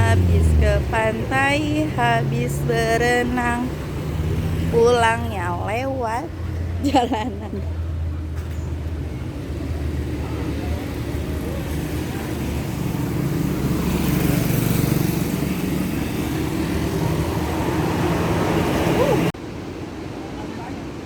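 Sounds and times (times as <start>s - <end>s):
car engine: 0.0s - 19.4s
road noise: 0.0s - 21.0s.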